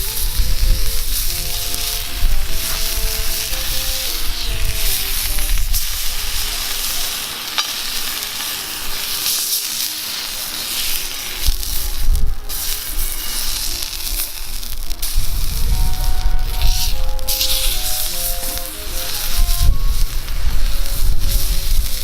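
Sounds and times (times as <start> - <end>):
faint background music: 0.0 - 22.0
steak sizzling in a frying pan: 0.0 - 22.0.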